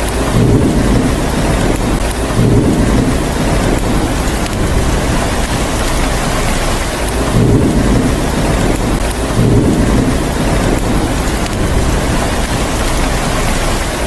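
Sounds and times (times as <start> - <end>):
heavy steady rain: 0.0 - 14.0
rolling thunder: 0.0 - 14.0.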